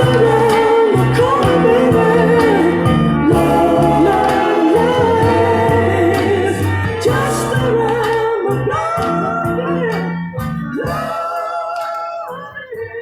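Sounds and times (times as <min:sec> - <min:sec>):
band with bass: 0:00.0 - 0:11.4
vocal group singing: 0:00.0 - 0:13.0.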